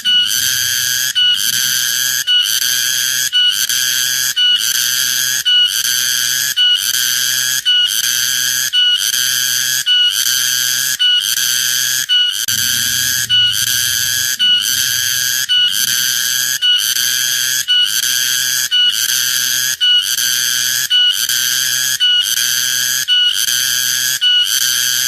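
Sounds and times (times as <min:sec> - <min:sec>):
cicada buzzing song: 0:00.0 - 0:25.0.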